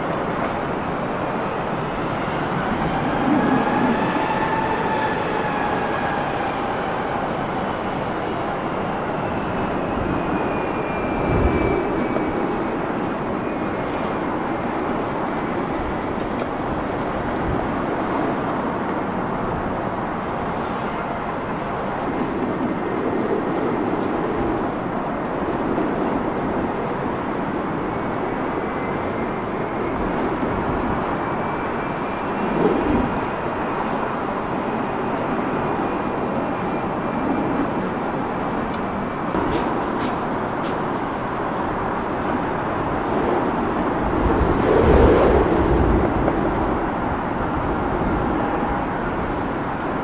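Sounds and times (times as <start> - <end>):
airliner whine on approach: 0.0 - 50.0
jet engines roaring: 0.0 - 50.0
wind rumbling on microphone: 0.0 - 50.0.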